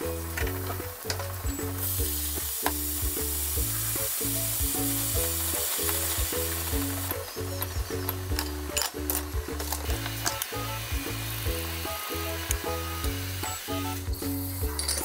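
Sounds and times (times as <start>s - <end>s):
vegetables sizzling in frying pan: 0.0s - 14.2s
chopsticks stirring vegetables: 0.2s - 12.9s.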